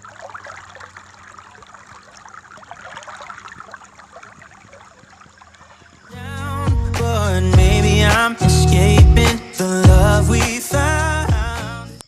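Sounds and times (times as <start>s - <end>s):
river water babbling: 0.0s - 10.8s.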